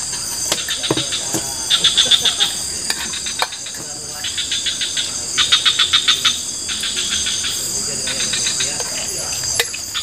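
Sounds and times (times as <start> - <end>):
cricket chirping: 0.0 - 10.0
high-pitched insect drone: 0.0 - 10.0.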